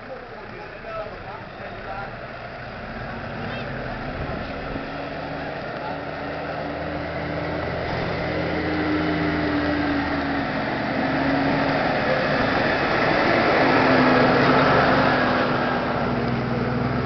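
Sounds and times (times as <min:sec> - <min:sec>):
truck engine driving past: 0:00.0 - 0:17.0.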